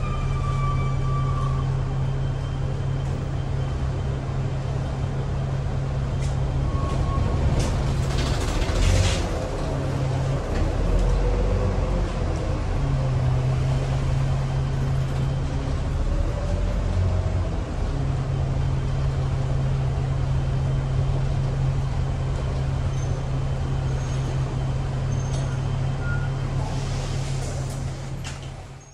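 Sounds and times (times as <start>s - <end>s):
bus engine drone: 0.0s - 28.9s
road noise: 0.0s - 28.9s.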